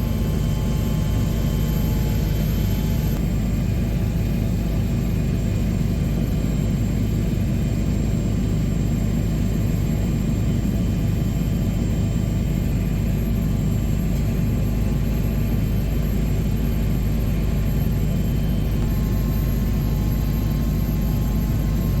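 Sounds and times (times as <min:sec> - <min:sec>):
helicopter rotor drone: 0:00.0 - 0:22.0
high turbine whine: 0:00.0 - 0:22.0.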